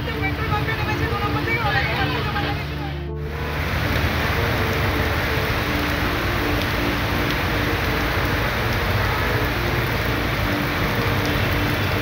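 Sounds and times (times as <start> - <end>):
heavy rain falling: 0.0 - 12.0
traffic driving through floodwater: 0.0 - 12.0.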